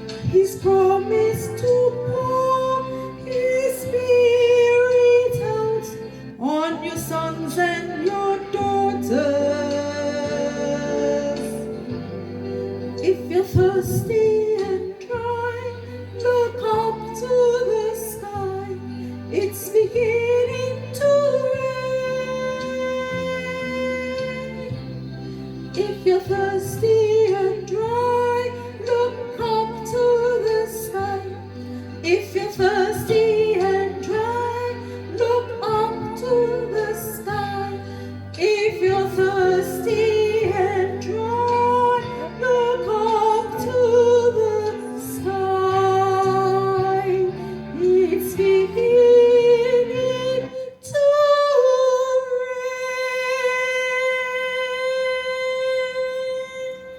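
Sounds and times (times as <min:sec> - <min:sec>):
instrumental backing with bass: 0:00.0 - 0:56.9
woman singing gospel song: 0:00.0 - 0:56.9.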